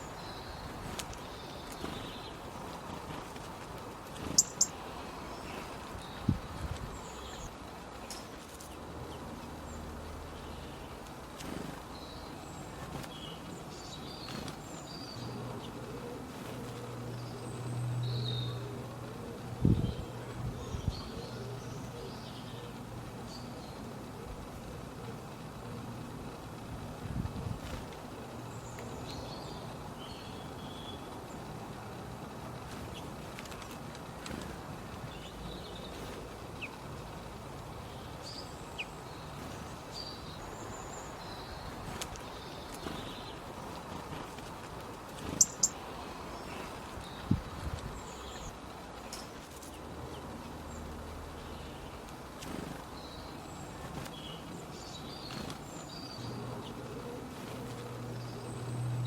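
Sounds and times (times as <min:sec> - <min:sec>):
small birds chirping: 0:00.0 - 0:24.2, 0:27.5 - 0:59.0
low outdoor background noise: 0:00.0 - 0:59.0.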